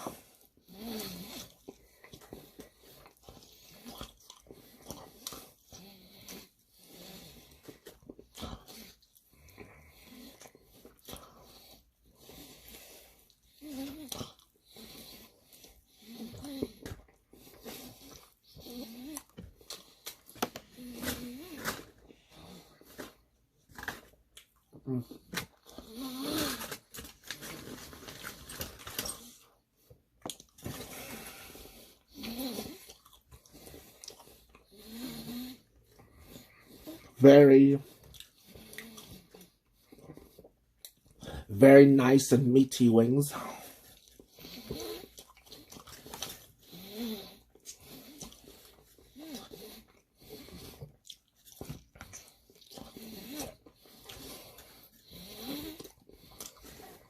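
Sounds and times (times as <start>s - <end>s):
person chewing: 0.0s - 37.2s, 37.9s - 41.5s, 43.5s - 57.0s.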